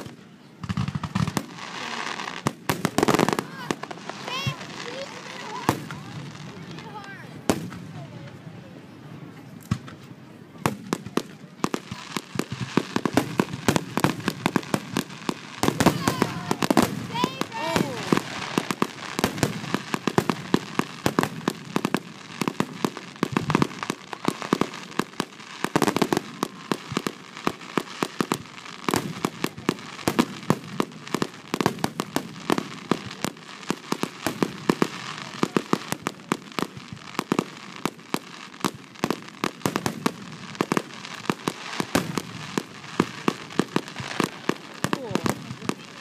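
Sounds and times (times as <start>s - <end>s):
fireworks crackling: 0.0s - 46.0s.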